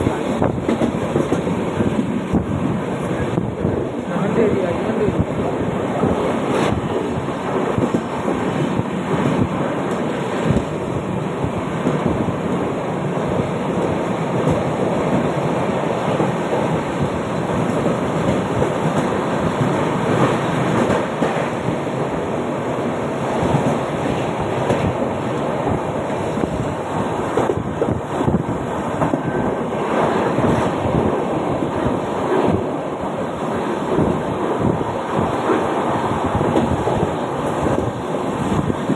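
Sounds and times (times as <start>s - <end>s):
train rumbling and rattling: 0.0s - 38.9s.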